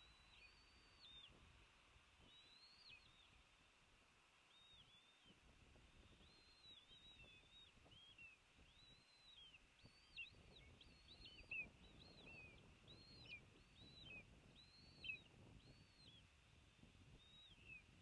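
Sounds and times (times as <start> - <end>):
faint high bird calls: 0.0 - 1.5, 2.2 - 3.7, 4.4 - 16.4, 17.1 - 18.0.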